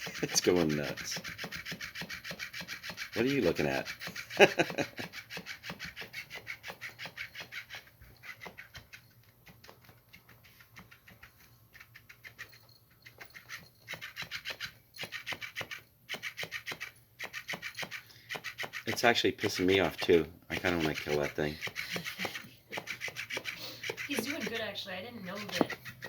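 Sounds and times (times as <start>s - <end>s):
cat toy rasping scrape: 0.0s - 26.0s.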